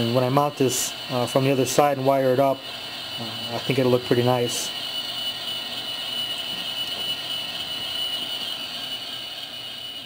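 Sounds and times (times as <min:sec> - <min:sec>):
model locomotive diesel engine idling: 0:00.0 - 0:10.0
thin high whine: 0:00.0 - 0:10.0.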